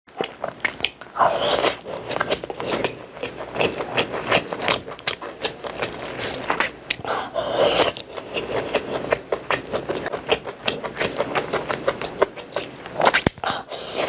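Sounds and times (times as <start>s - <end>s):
person chewing crunchy food: 0.1s - 14.0s.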